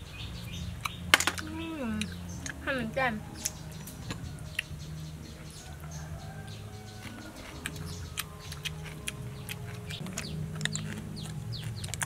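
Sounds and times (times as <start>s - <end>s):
birds chirping: 0.0s - 12.0s
chickens clucking: 0.0s - 12.0s
low background music: 0.0s - 12.0s.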